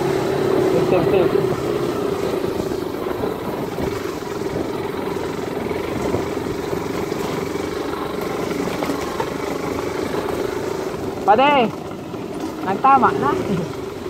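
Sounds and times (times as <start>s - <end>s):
small motorcycle engine running: 0.0s - 14.0s
wind and trail noise: 0.0s - 14.0s.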